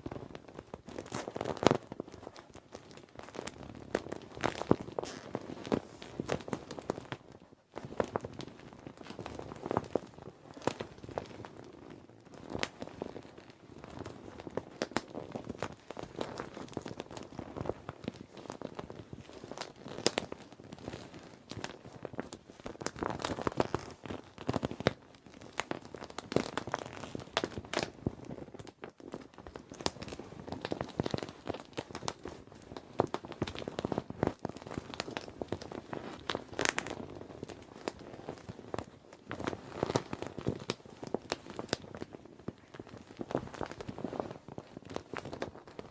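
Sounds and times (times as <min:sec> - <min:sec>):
plastic crinkling and crackling: 0:00.0 - 0:45.9.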